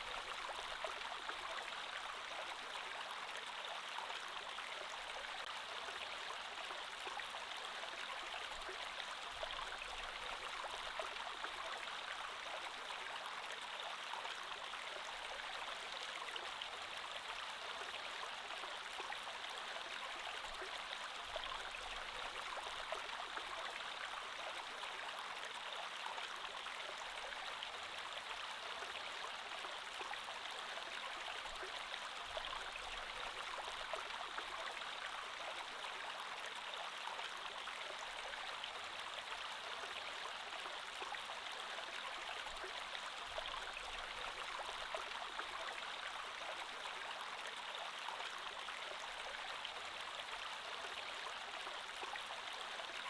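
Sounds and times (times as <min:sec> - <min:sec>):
creek water flowing: 0:00.0 - 0:53.0.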